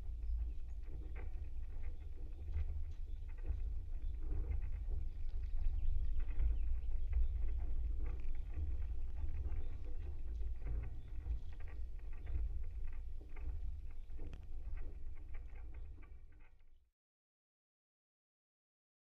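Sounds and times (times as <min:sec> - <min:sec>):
wooden pole ticks and knocks: 0:00.3 - 0:16.6.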